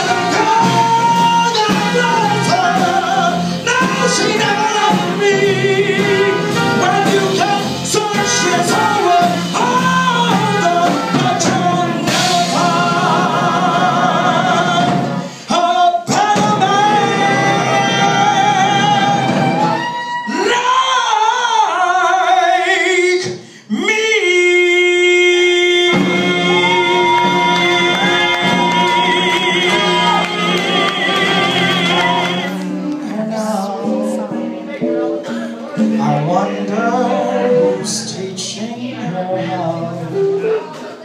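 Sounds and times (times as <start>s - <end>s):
jazz band playing live: 0.0s - 23.3s, 24.2s - 41.0s.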